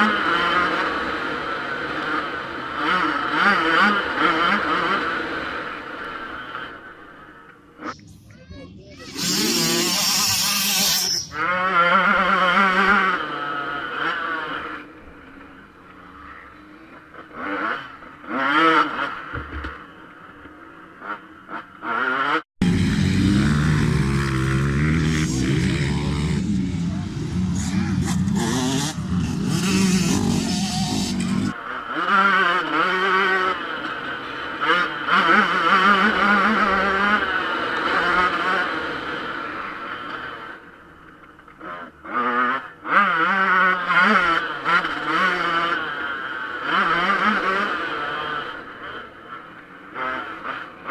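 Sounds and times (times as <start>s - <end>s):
motocross bike engine revving: 0.0s - 8.3s, 9.0s - 50.9s.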